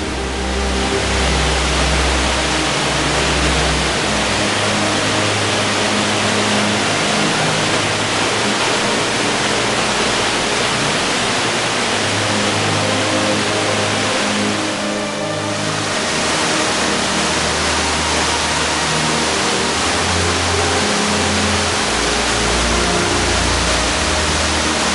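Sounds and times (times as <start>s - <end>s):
low sustained tones: 0.0s - 24.9s
waterfall roaring: 0.0s - 24.9s.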